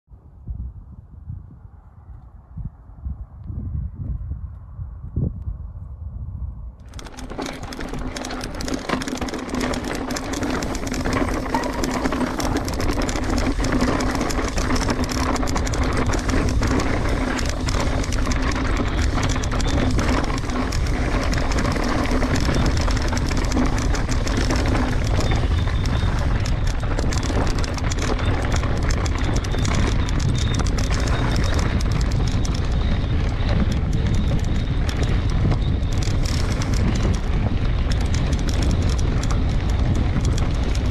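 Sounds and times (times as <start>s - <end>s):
wind buffeting microphone: 0.1s - 40.9s
bike rattling over bumps: 6.8s - 40.9s
tyres rolling over gravel: 6.9s - 40.9s.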